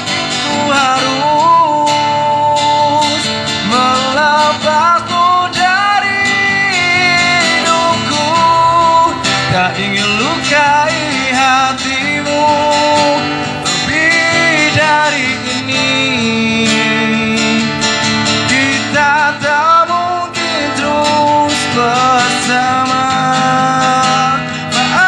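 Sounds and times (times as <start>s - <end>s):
acoustic guitar strummed: 0.0s - 25.0s
man singing wordless notes: 0.0s - 25.0s.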